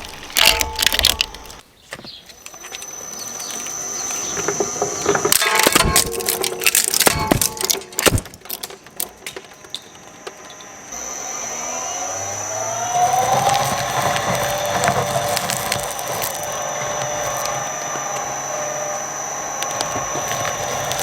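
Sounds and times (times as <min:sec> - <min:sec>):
material cracking in shredder: 0:00.0 - 0:01.6, 0:02.3 - 0:10.4, 0:12.4 - 0:21.0
shredder whining: 0:00.0 - 0:01.6, 0:02.2 - 0:21.0.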